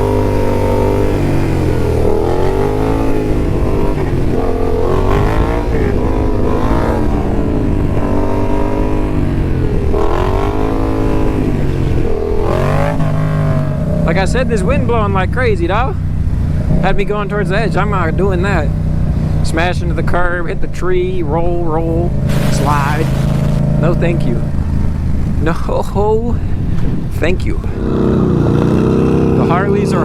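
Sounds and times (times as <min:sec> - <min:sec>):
motorcycle engine revving: 0:00.0 - 0:30.0
wind buffeting microphone: 0:00.0 - 0:30.0.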